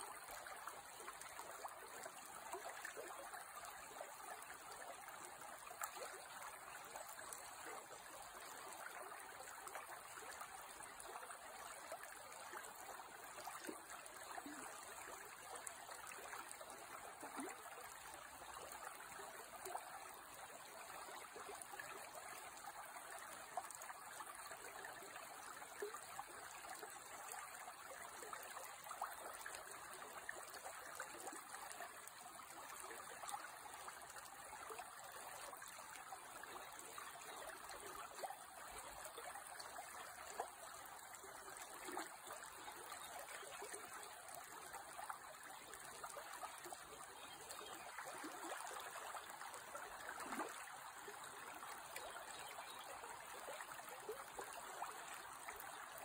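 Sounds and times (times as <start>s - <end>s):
creek water babbling: 0.0s - 56.0s.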